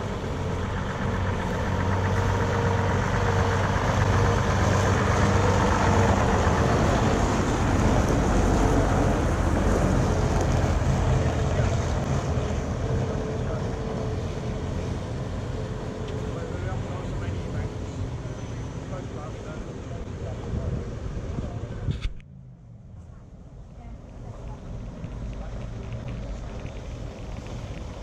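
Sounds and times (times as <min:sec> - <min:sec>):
diesel bus engine driving past: 0:00.0 - 0:28.0.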